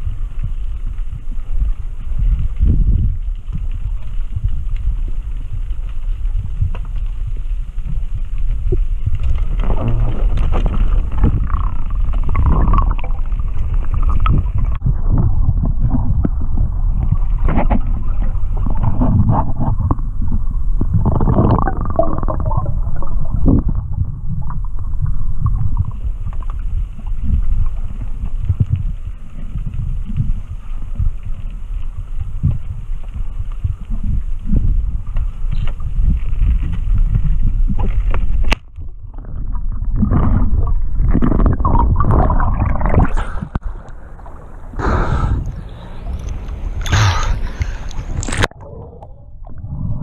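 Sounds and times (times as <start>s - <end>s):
muffled underwater rumble: 0.0s - 50.0s
water gurgling and sloshing: 0.0s - 50.0s.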